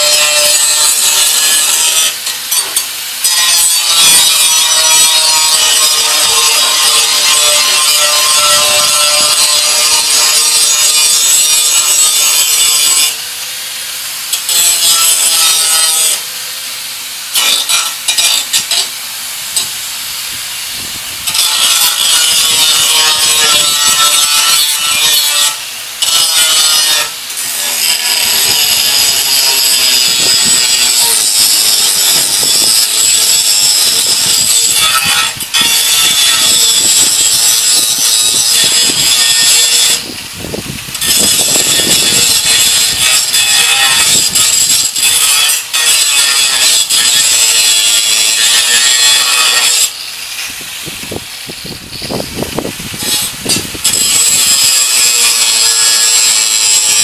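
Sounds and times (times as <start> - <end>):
angle grinder cutting metal: 0.0 - 57.0.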